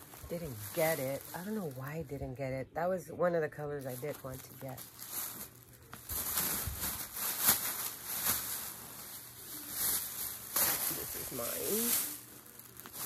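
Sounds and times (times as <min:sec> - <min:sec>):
yarn rustling: 0:00.0 - 0:02.4, 0:03.8 - 0:13.0.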